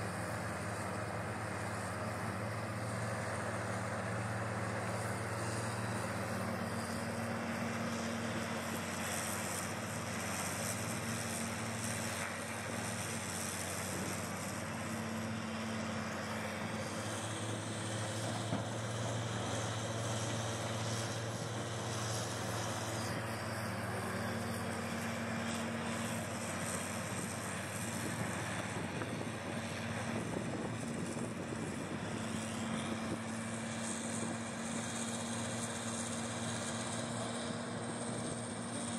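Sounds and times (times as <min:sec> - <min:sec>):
excavator diesel engine drone: 0:00.0 - 0:38.9.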